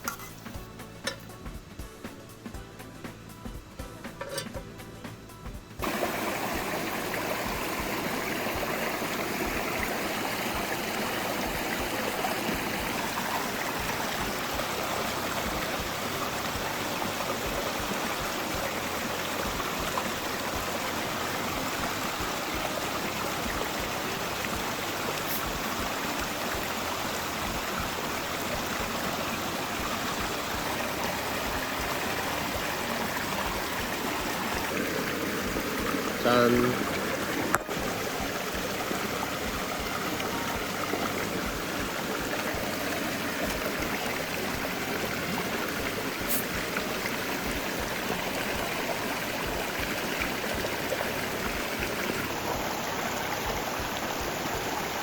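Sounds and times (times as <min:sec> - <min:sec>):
stream running: 0:00.0 - 0:01.7, 0:05.7 - 0:55.0.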